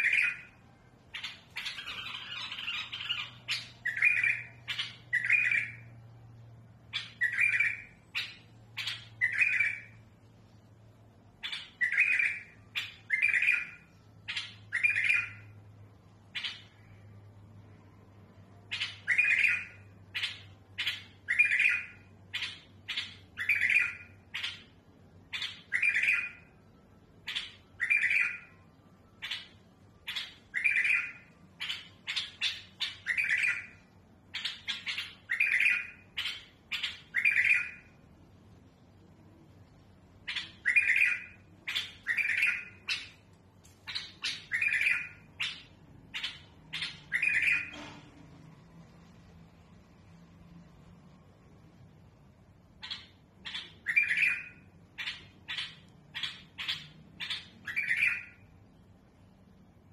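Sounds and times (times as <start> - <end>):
bulbul singing: 0.0 - 48.0, 52.6 - 58.8.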